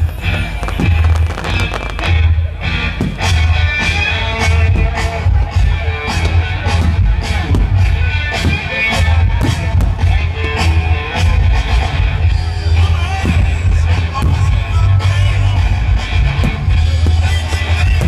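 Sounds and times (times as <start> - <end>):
loud rock music: 0.0 - 18.0.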